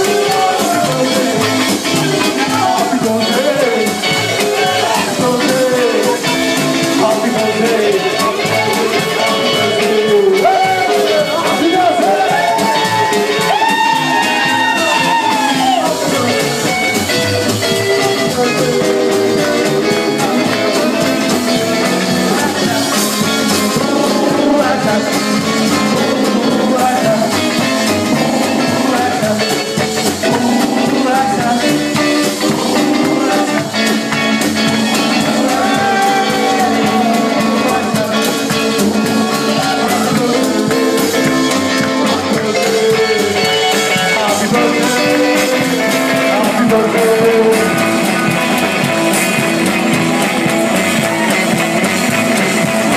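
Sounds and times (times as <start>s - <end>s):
rock and roll band playing: 0.0s - 52.9s.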